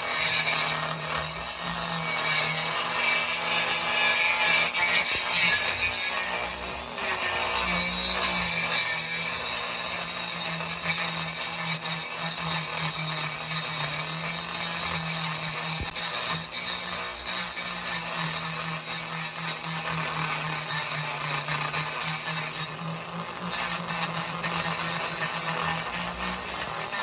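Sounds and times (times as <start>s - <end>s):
small power tool on wood: 0.0s - 27.0s.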